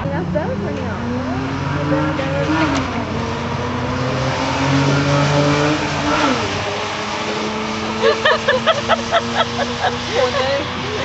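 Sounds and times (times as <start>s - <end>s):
car engine passing: 0.0s - 11.0s.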